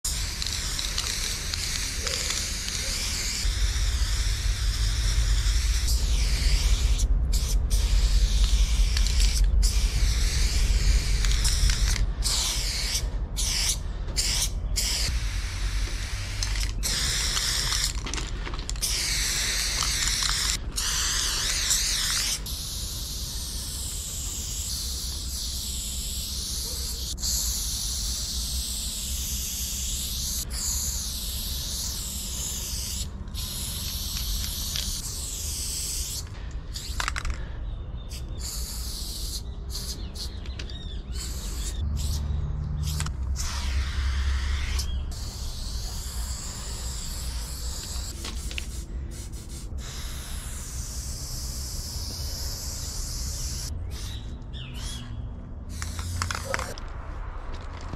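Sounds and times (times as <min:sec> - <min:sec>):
steady low rumble: 0:00.0 - 0:25.4, 0:27.1 - 0:57.9
spray paint cans hissing: 0:00.0 - 0:57.9.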